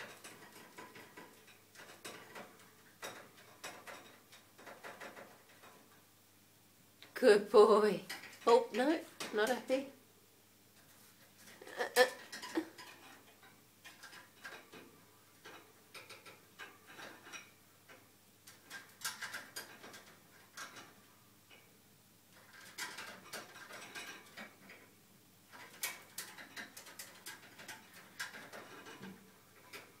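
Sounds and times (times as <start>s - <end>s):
parrot clicking tapping and scraping: 0.0s - 6.1s, 8.0s - 9.9s, 10.8s - 21.7s, 22.3s - 30.0s.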